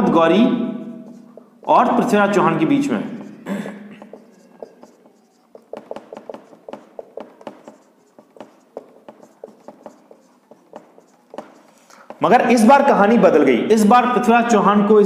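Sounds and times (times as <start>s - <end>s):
marker writing on whiteboard: 0.0s - 13.9s.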